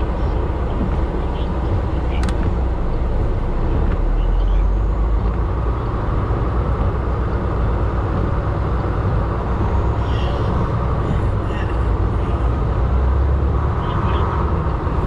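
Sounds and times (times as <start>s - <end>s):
heavy truck engine: 0.0s - 15.0s
road rumble: 0.0s - 15.0s.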